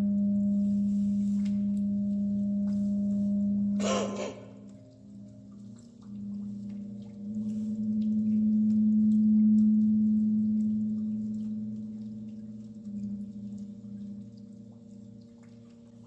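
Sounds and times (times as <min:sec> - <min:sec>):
low droning tone: 0:00.0 - 0:15.5.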